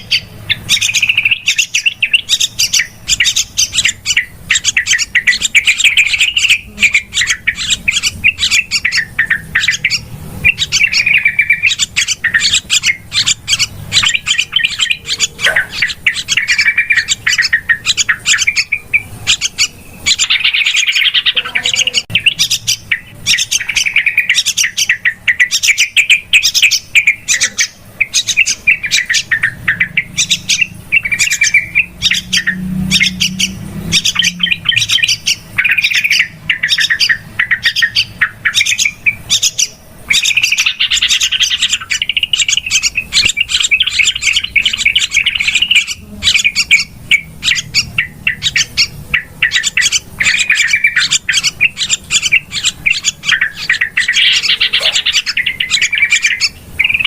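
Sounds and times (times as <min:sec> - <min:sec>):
bulbuls chattering: 0:00.0 - 0:57.0.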